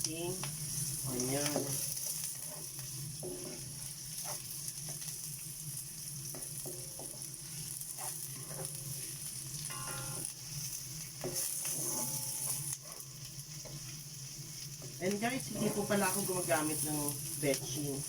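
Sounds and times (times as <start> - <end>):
onion sizzling in oil: 0.0 - 18.0
spatula scraping a pan: 0.7 - 5.2, 6.0 - 17.8.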